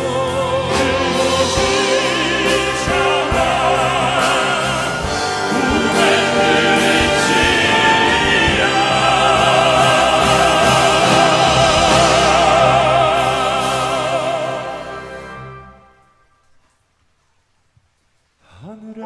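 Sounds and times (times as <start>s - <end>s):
male vocal quartet singing: 0.0s - 15.6s
musical accompaniment: 0.0s - 16.6s.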